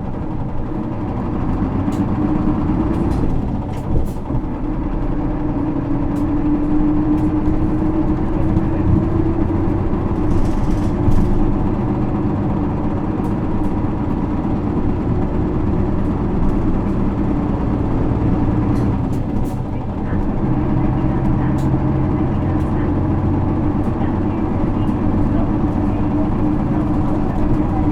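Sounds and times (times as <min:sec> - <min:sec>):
bus diesel engine: 0:00.0 - 0:27.9
road rumble: 0:00.0 - 0:27.9.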